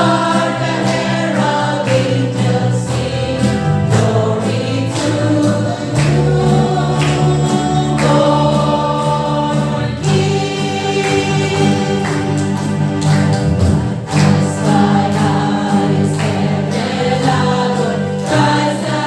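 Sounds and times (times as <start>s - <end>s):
choir singing a carol: 0.0s - 19.0s.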